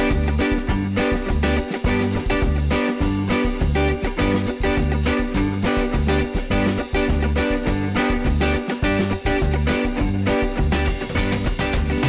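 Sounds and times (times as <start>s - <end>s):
upbeat guitar music with beat: 0.0s - 12.0s.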